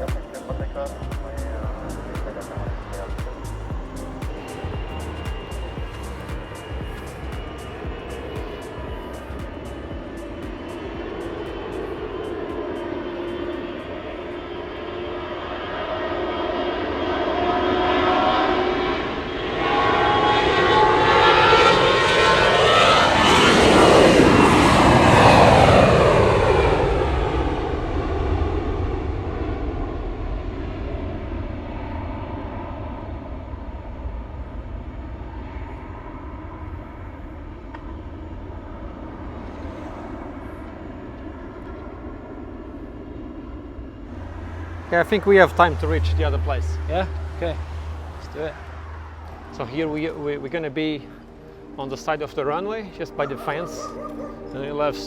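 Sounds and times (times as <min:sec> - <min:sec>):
airliner flying past: 0:00.0 - 0:55.0.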